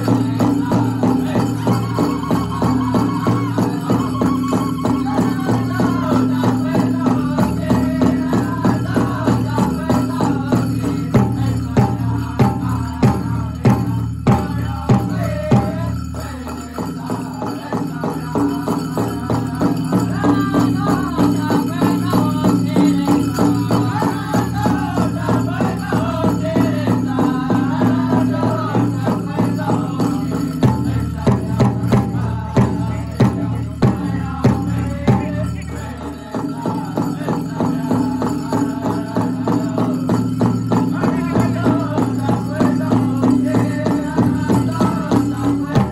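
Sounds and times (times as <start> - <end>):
drum group singing: 0.0 - 45.9
leg bells jingling: 0.0 - 45.9.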